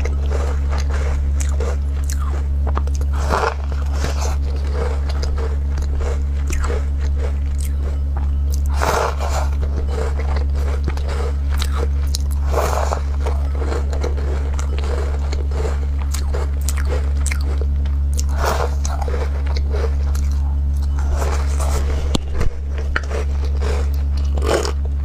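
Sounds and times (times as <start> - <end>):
chewing crunchy cookies: 0.0 - 25.0
steady low hum: 0.0 - 25.0.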